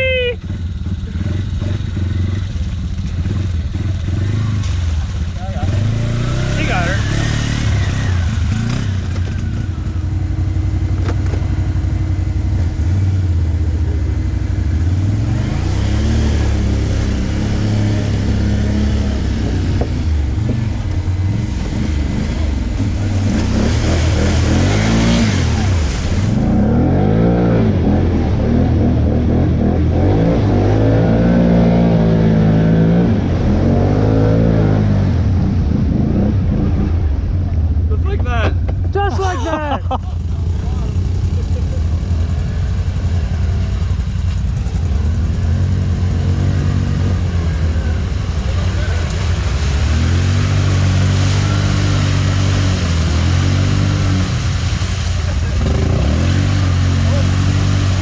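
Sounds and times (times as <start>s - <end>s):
atv engines revving: 0.0s - 58.0s.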